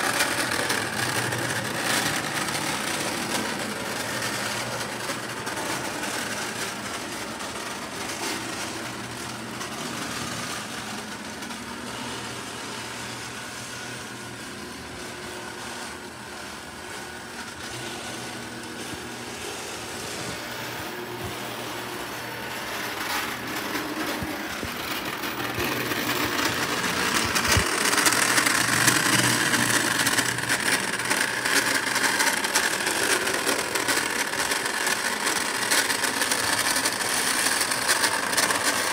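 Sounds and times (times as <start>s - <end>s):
wheels rattling on rails: 0.0s - 14.7s, 16.4s - 38.9s
electric motors humming: 0.0s - 38.9s.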